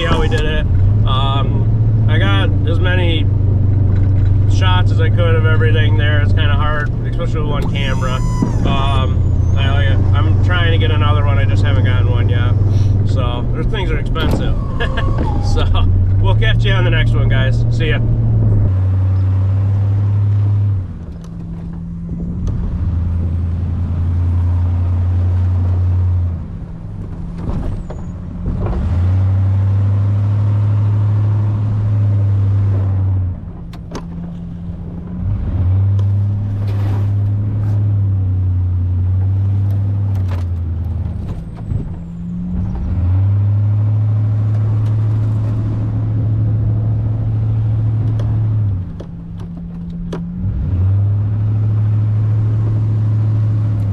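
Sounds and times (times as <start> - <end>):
truck engine deep hum: 0.0 - 53.9.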